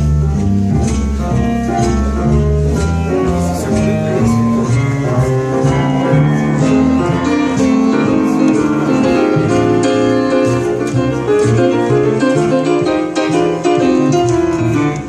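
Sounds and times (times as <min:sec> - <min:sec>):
instrumental music through loudspeakers: 0:00.0 - 0:15.0.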